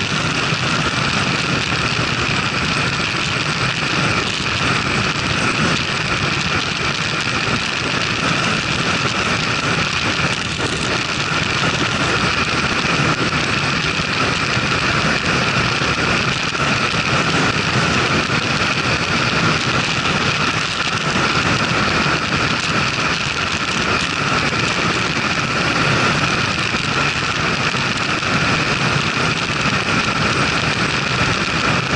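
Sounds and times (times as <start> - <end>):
motorcycle engine: 0.0 - 31.9
wind rushing over camera: 0.0 - 31.9.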